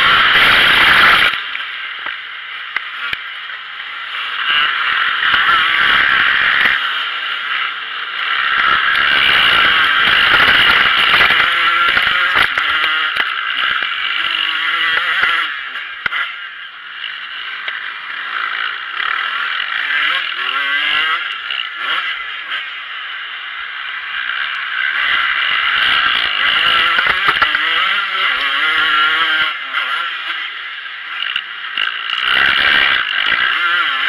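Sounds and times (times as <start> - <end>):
motorbike engine buzzing: 0.0 - 34.0.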